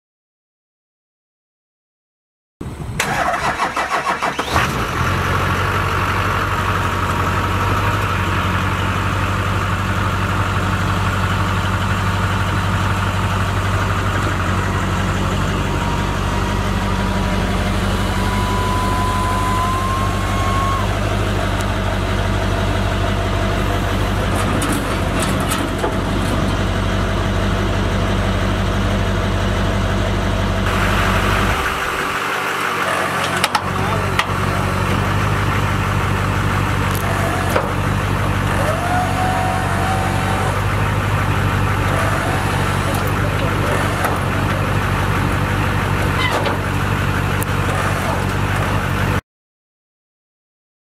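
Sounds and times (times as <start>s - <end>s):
truck engine idling: 2.6s - 49.2s.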